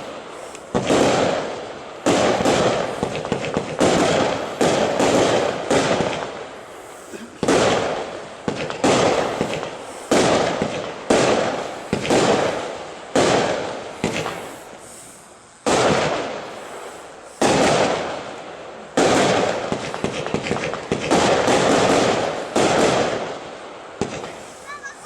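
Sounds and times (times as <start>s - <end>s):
firework bangs with crackle: 0.0s - 25.0s.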